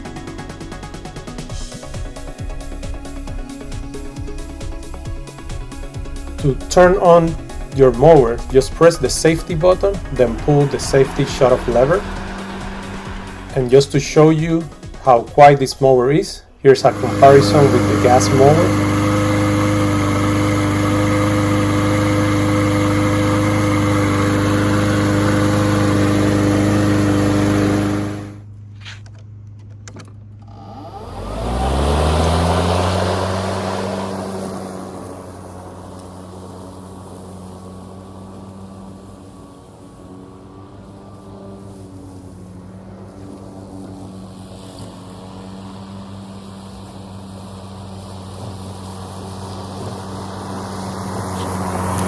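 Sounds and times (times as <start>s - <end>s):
electric mower motor whine: 0.0s - 28.5s, 29.1s - 52.0s
gas lawn mower engine: 0.0s - 52.0s.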